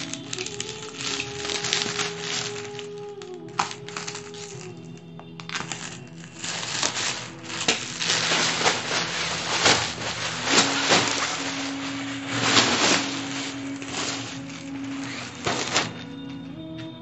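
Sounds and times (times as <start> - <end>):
box cutter slitting plastic: 0.0 - 4.8, 5.4 - 16.1
plastic wrap crinkling: 0.0 - 16.4
soft background music: 0.0 - 17.0.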